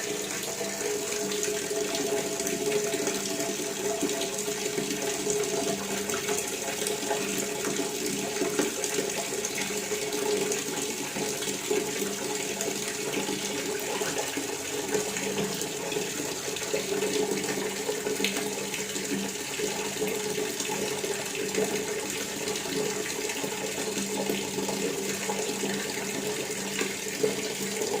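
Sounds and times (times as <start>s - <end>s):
water tap running: 0.0s - 28.0s.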